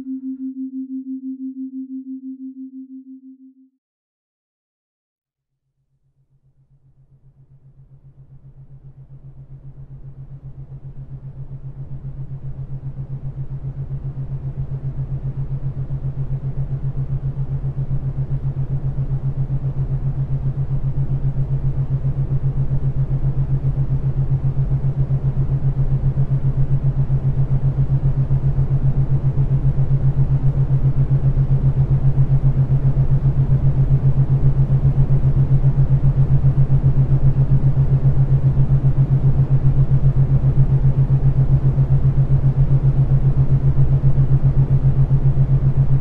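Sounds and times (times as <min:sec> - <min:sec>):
low pulsing drone: 0:00.0 - 0:03.5, 0:06.7 - 0:46.0.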